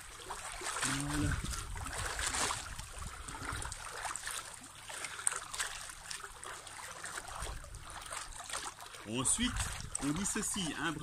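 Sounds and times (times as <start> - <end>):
pool water sloshing and splashing: 0.0 - 11.0.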